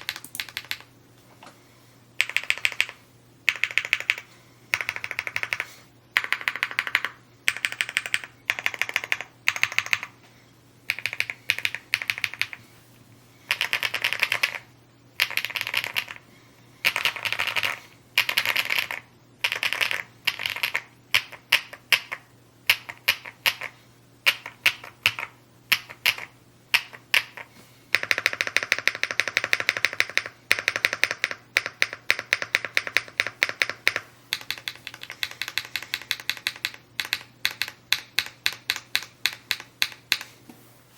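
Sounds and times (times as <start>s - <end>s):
mechanical keyboard typing: 0.0s - 0.9s, 2.2s - 10.1s, 10.9s - 12.6s, 13.5s - 16.2s, 16.8s - 23.7s, 24.3s - 40.3s.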